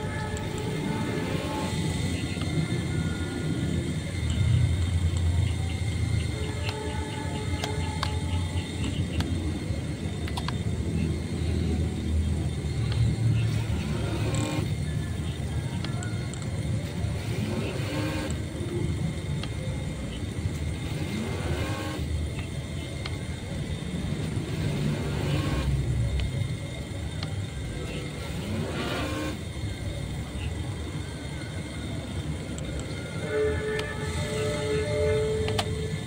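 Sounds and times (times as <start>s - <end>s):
remote-control boat motor revving: 0.0s - 30.6s.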